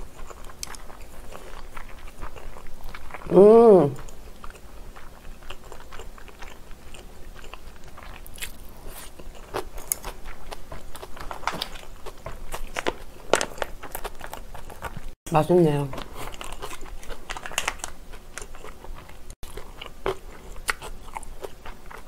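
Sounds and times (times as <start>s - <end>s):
person chewing noodles: 0.0s - 15.2s, 16.0s - 22.0s.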